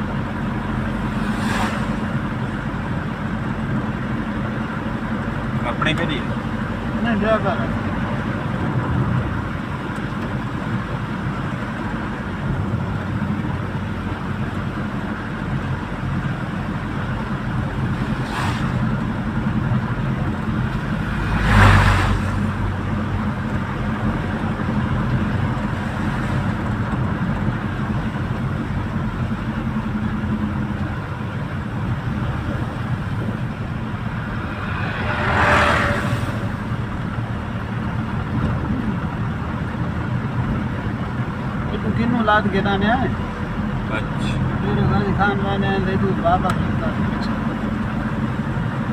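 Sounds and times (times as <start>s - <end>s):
road noise: 0.0s - 48.9s
vehicle engine driving: 0.0s - 48.9s.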